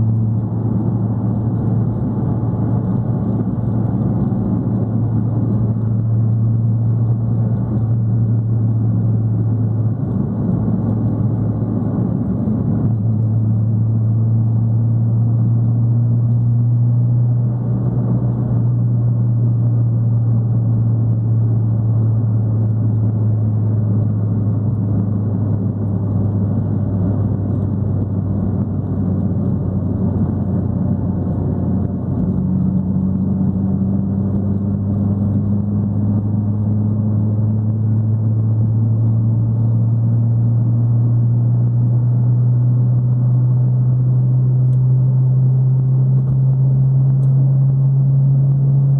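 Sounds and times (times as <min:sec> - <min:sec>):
car engine droning: 0:00.0 - 0:48.9
tyre and road noise: 0:00.0 - 0:48.9.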